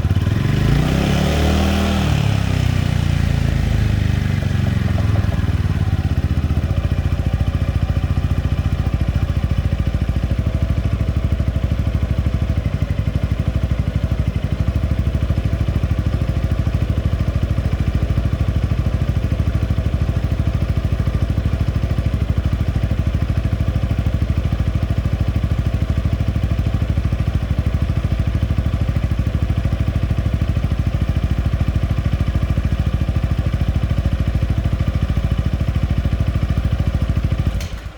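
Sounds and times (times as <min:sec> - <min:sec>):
scooter engine idling: 0:00.0 - 0:37.9.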